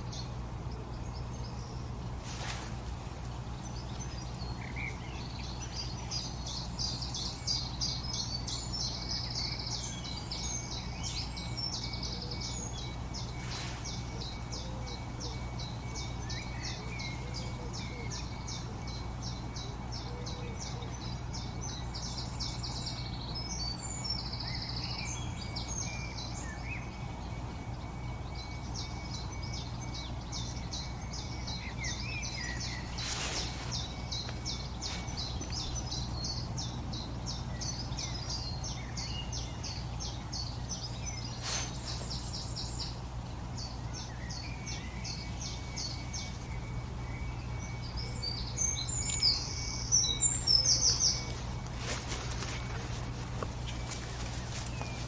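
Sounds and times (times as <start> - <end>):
low background hum: 0.0 - 55.0
songbirds singing: 0.0 - 55.0.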